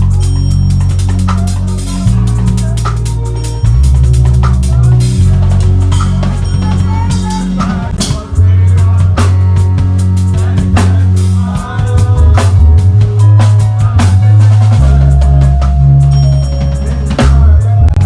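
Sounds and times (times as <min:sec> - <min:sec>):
bass line: 0:00.0 - 0:18.0
drum beat: 0:00.0 - 0:18.0.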